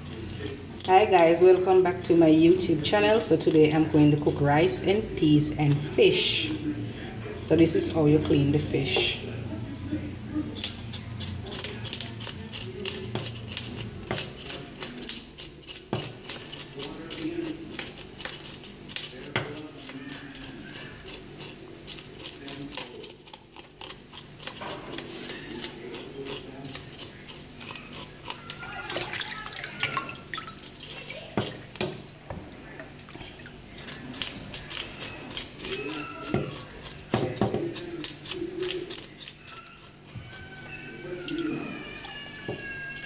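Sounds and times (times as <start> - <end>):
knife scraping fish scales: 0.0 - 8.0, 10.5 - 31.8, 33.7 - 41.2.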